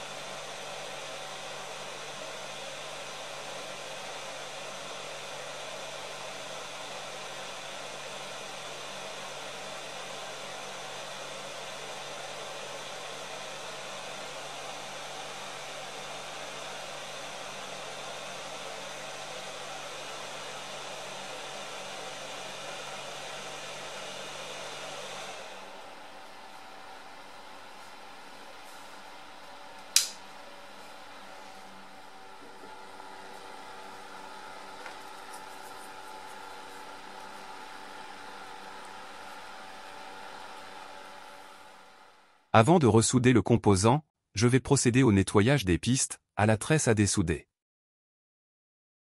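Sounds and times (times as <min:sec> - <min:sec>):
fan blowing air: 0:00.0 - 0:42.3
faint motor hum: 0:00.0 - 0:42.4.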